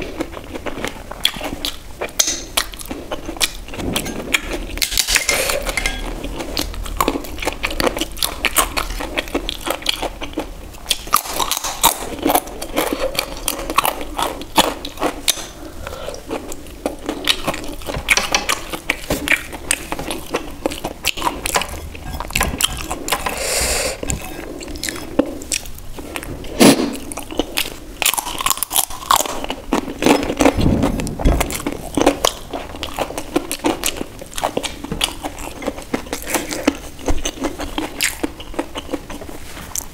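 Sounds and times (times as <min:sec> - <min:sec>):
crunchy bites and chewing: 0:00.0 - 0:39.9
soft chewing: 0:00.0 - 0:39.9.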